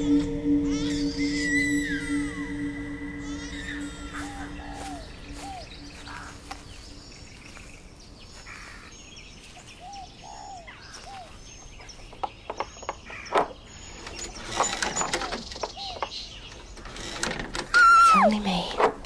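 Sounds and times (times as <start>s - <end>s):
birds chirping: 0.0s - 18.9s.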